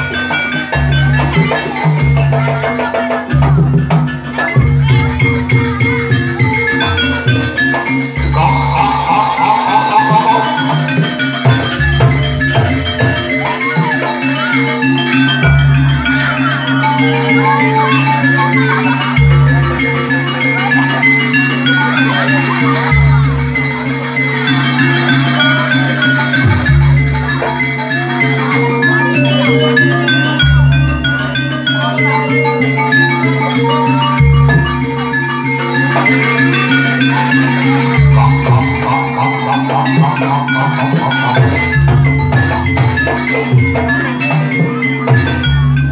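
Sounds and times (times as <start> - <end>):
drums: 0.0 - 45.9
metallophones ringing: 0.0 - 45.9.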